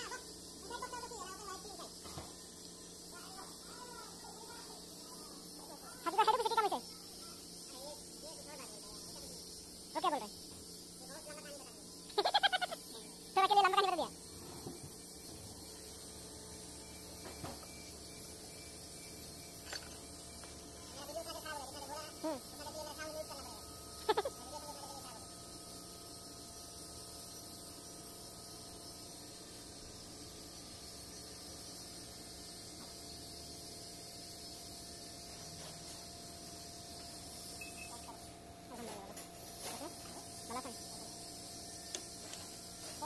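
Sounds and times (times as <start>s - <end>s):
low workshop hum: 0.0s - 43.0s
steady hiss: 0.0s - 43.0s.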